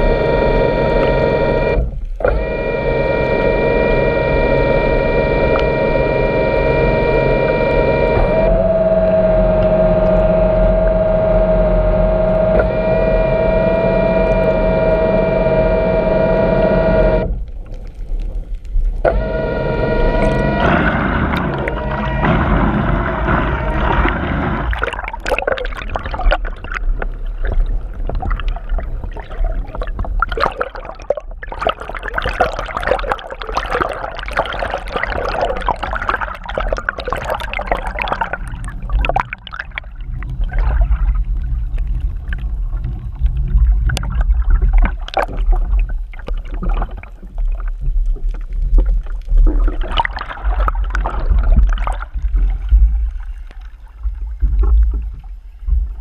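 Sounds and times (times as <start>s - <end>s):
steady low rumble: 0.0s - 56.0s
water sloshing and gurgling: 0.0s - 56.0s.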